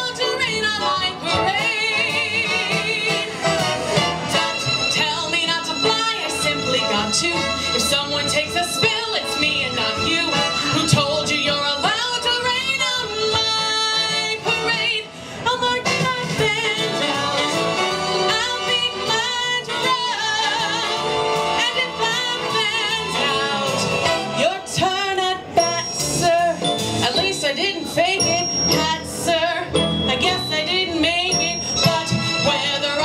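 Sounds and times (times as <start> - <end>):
instrumental accompaniment: 0.0 - 33.0.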